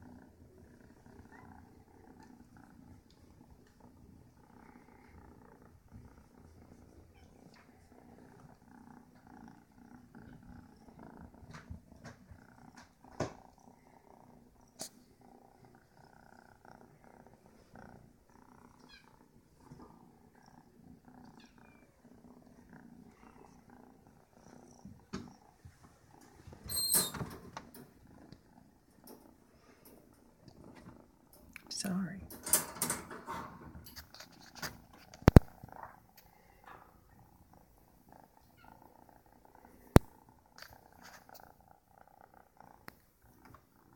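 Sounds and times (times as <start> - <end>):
kitten purring: 0.0 - 43.9.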